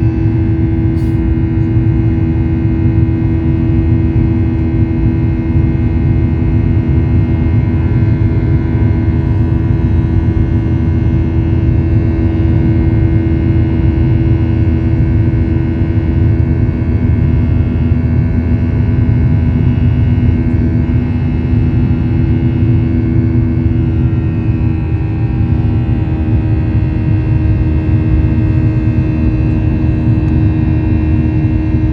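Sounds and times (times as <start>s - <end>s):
jet engines rumbling in cabin: 0.0s - 31.9s.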